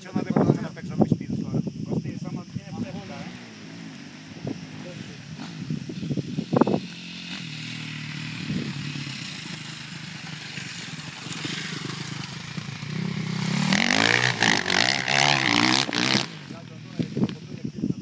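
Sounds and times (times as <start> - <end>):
dirt bike engine running: 2.5 - 17.7.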